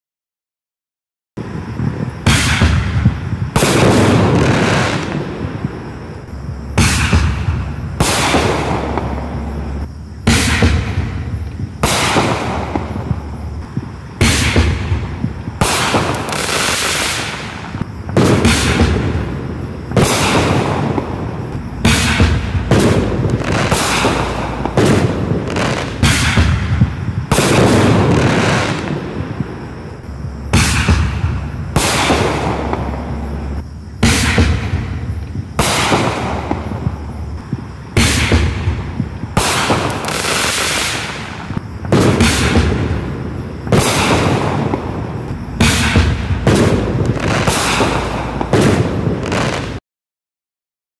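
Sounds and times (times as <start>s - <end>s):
firework launch thumps: 1.4s - 49.8s
firework shells bursting: 1.4s - 49.8s.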